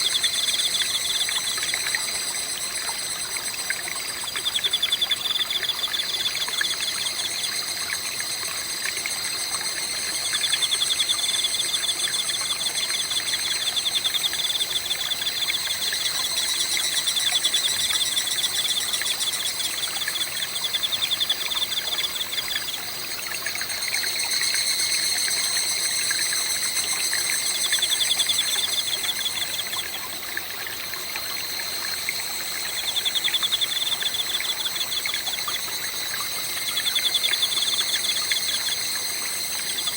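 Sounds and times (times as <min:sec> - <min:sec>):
insects chirping in trills: 0:00.0 - 0:39.9
stream trickling: 0:00.0 - 0:39.9.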